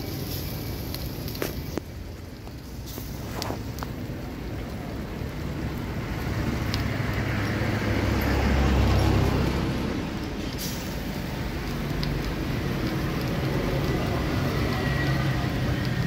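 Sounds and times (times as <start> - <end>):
street traffic: 0.0 - 16.0
vehicle rumble: 0.0 - 16.0.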